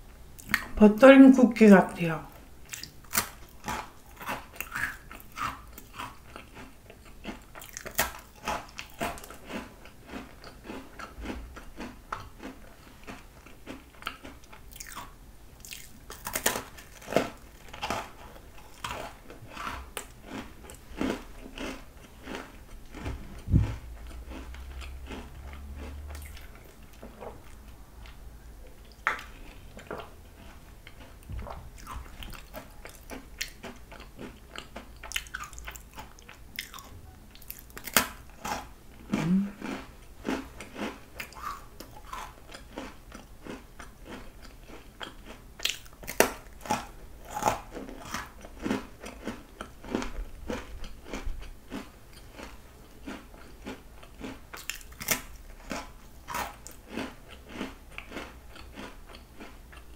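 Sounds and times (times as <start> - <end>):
crunching cookie: 2.6 - 28.2, 28.8 - 59.9.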